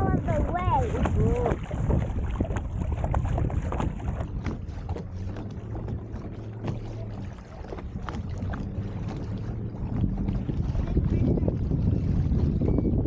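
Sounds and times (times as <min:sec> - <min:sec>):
water and wind rumble: 0:00.0 - 0:13.0
water splashing along kayak hull: 0:00.0 - 0:13.0.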